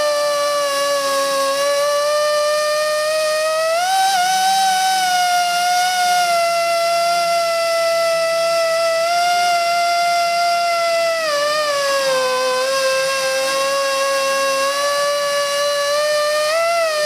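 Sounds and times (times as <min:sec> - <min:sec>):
glass edge grinder whining: 0:00.0 - 0:17.0.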